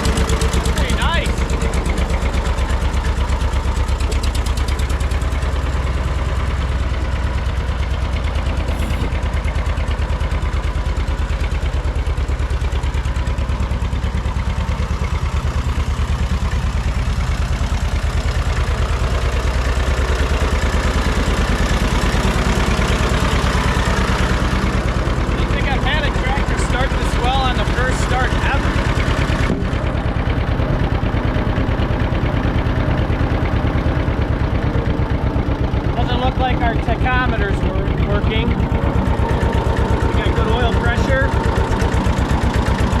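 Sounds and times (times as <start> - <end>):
two-cylinder tractor engine running: 0.0 - 43.0.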